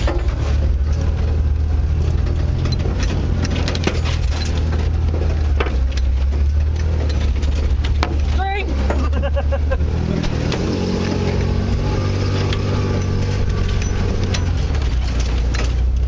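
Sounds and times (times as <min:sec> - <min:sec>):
knocks and rattles: 0:00.0 - 0:16.0
truck engine idling: 0:00.0 - 0:16.0.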